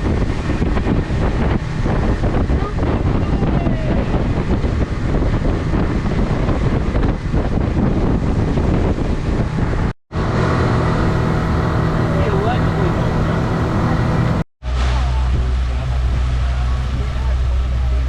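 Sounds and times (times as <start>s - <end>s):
boat motor humming: 0.0s - 18.0s
water rushing: 0.0s - 18.0s
wind buffeting microphone: 0.0s - 18.0s.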